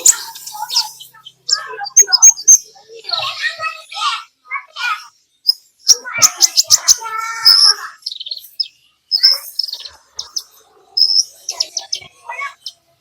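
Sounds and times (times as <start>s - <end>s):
small songbird chirping: 0.0s - 13.0s.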